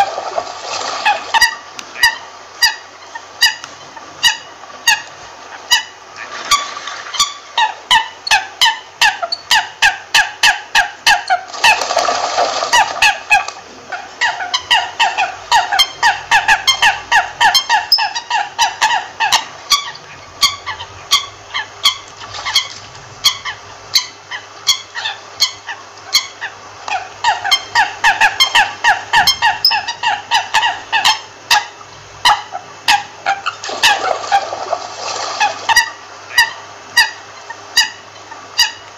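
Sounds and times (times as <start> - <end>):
coots calling: 0.0 - 38.9.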